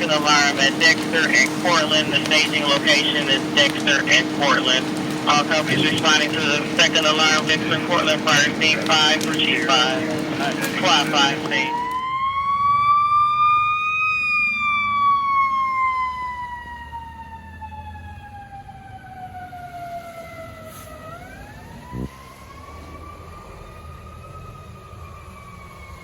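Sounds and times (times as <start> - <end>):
fire truck siren wailing: 0.0 - 26.0.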